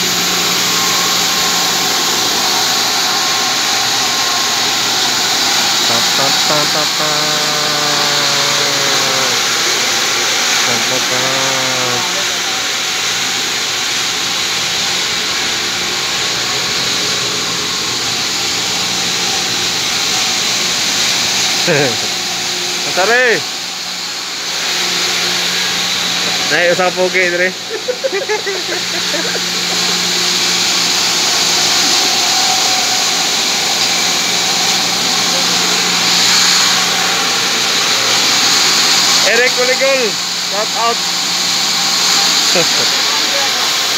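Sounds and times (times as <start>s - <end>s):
water pumps whirring: 0.0s - 43.9s.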